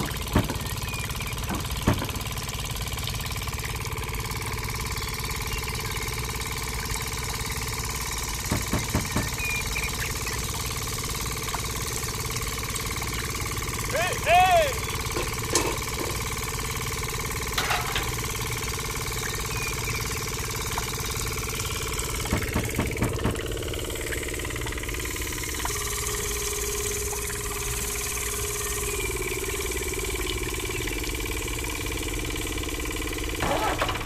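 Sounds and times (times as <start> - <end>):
small motor humming: 0.0 - 34.0.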